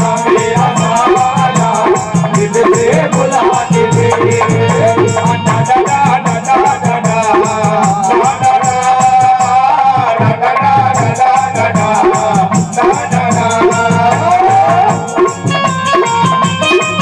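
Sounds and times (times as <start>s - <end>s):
dholak drum: 0.0s - 17.0s
harmonium-like melody: 0.0s - 17.0s
rattling percussion beat: 0.0s - 17.0s.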